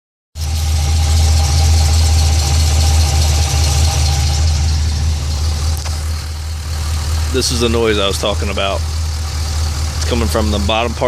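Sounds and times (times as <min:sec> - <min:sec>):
car engine idling: 0:00.4 - 0:11.0
noise from bottom of engine: 0:00.4 - 0:11.0.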